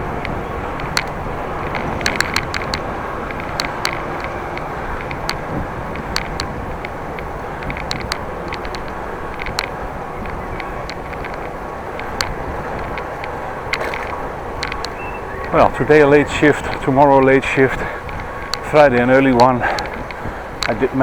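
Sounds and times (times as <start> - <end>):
bicycle tyre rumble: 0.0 - 21.0
sharp clicks and rattles: 0.0 - 21.0
wind rushing over microphone: 0.0 - 21.0.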